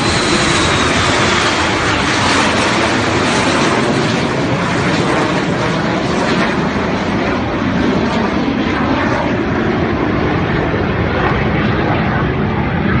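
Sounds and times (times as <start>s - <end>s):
aircraft engine rushing overhead: 0.0s - 13.0s.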